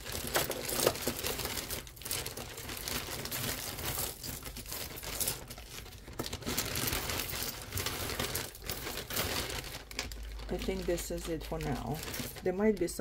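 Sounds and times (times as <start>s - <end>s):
hands rummaging through earrings: 0.0s - 13.0s
plastic bags crinkling: 0.0s - 13.0s.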